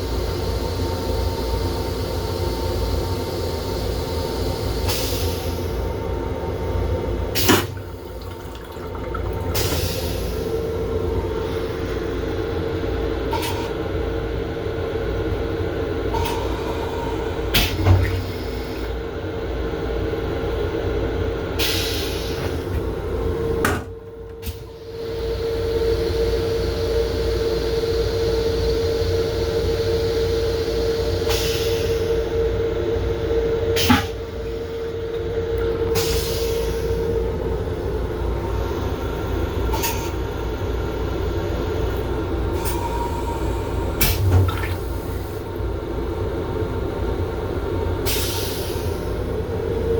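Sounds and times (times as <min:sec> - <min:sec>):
train interior rumble: 0:00.0 - 0:49.9.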